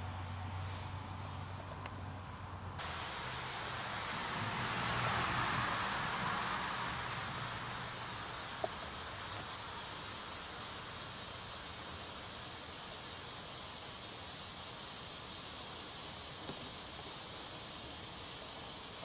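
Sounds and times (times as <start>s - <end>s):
fog machine hiss and hum: 2.8s - 19.0s
night insects chirring: 2.8s - 19.0s.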